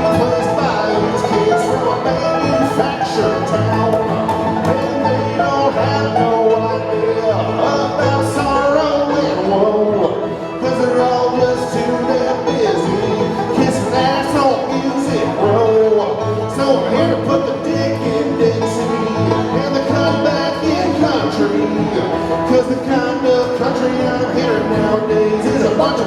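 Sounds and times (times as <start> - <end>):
banjo: 0.0 - 26.0
bluegrass band playing: 0.0 - 26.0
guitar: 0.0 - 26.0
walking bass line: 0.0 - 26.0.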